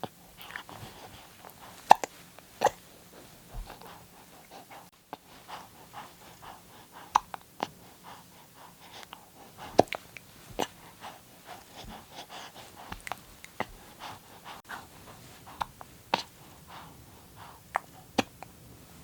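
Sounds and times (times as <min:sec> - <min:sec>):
faint breathing: 0:02.8 - 0:18.2.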